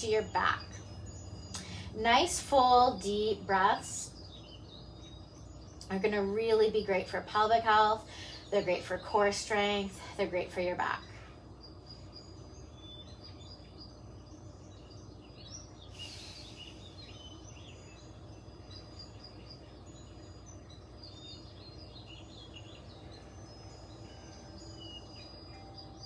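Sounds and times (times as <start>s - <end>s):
faint birds chirping: 0.0s - 26.0s
steady low hum: 0.0s - 26.0s.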